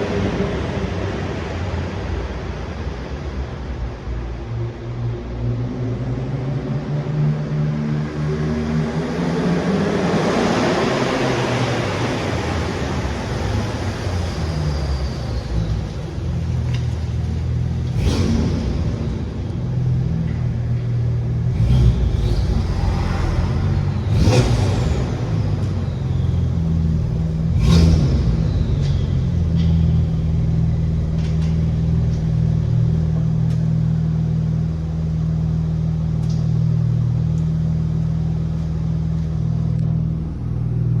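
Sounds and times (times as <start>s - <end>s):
car engine rumbling: 0.0s - 41.0s.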